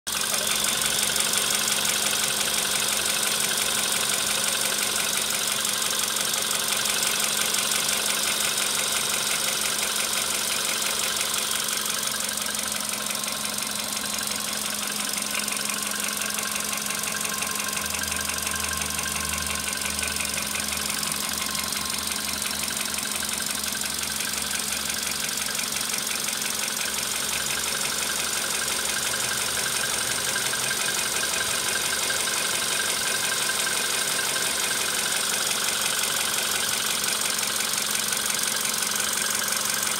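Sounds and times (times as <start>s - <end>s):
car engine idling with knocking: 0.1s - 39.9s.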